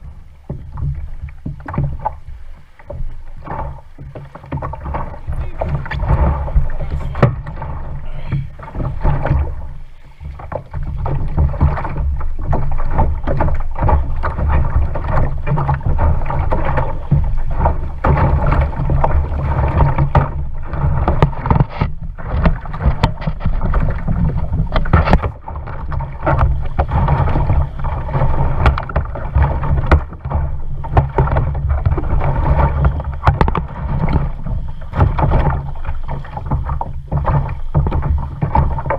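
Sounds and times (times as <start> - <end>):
water splashing around kayak: 0.0 - 38.9
wind buffeting microphone: 3.0 - 38.9.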